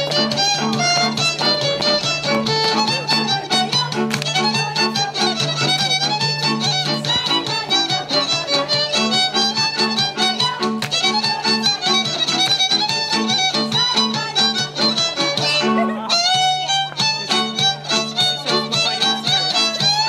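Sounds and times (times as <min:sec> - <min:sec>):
folk dance music led by fiddle: 0:00.0 - 0:20.0
pulsing accompaniment: 0:00.0 - 0:20.0.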